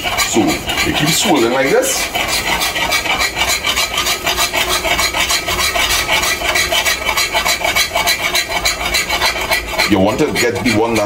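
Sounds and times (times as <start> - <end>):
spoon scraping bottom of pot: 0.0 - 11.0.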